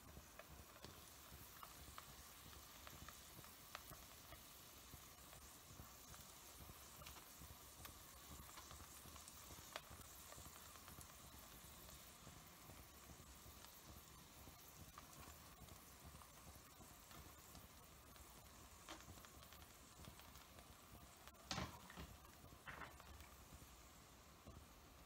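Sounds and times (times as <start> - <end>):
omelette sizzling in frying pan: 0.0 - 25.0.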